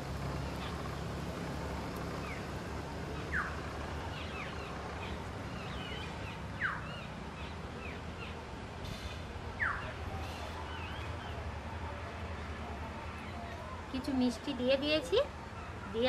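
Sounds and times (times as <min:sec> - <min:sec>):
low background noise: 0:00.0 - 0:16.0
birds chirping softly: 0:00.3 - 0:16.0.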